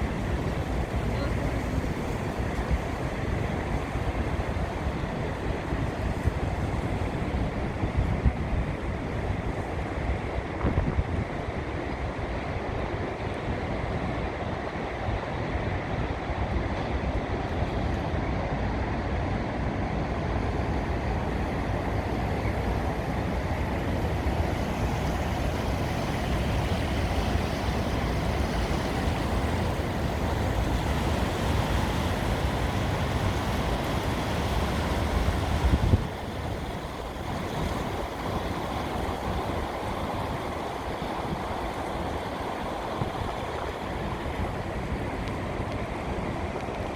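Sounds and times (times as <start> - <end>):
wind buffeting microphone: 0.0 - 16.1, 20.9 - 46.9
steady low river rumble: 0.0 - 46.9.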